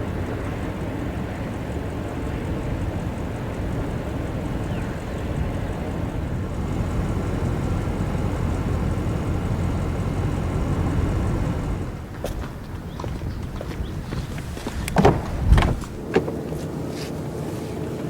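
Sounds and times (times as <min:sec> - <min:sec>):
car engine rumble: 0:00.0 - 0:14.2, 0:14.9 - 0:18.0
road noise: 0:00.0 - 0:18.0.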